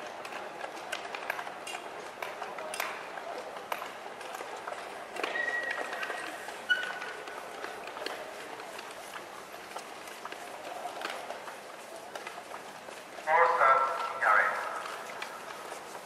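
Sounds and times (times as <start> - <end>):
faint voices: 0.0 - 16.0
skate blades scraping ice: 0.2 - 16.0.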